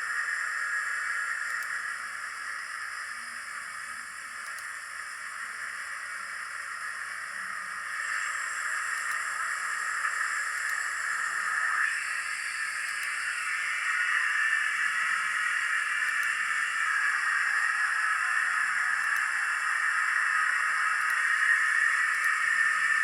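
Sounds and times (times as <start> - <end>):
steam hiss from small speaker: 0.0 - 23.0.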